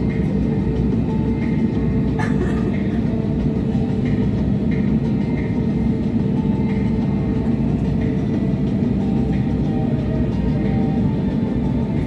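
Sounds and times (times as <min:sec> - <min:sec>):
airliner cabin rumble: 0:00.0 - 0:12.0
jet engines idling: 0:00.0 - 0:12.0.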